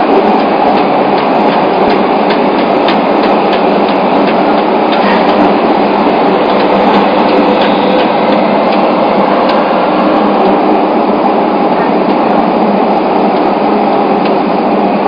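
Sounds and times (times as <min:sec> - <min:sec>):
train wheels roaring on rail: 0:00.0 - 0:15.0.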